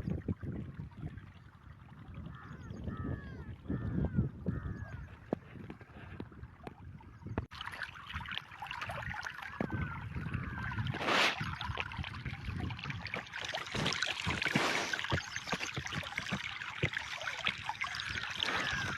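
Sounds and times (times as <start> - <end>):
water flowing and splashing: 0.0 - 18.9.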